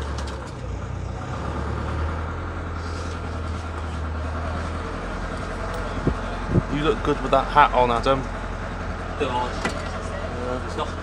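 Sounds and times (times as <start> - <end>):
minibus engine humming: 0.0 - 11.0.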